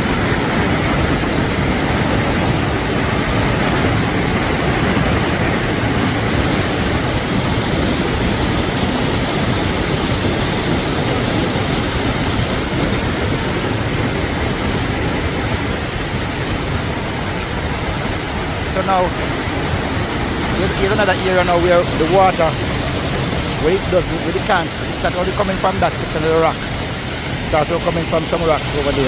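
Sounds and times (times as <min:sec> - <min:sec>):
river water roaring: 0:00.0 - 0:29.0.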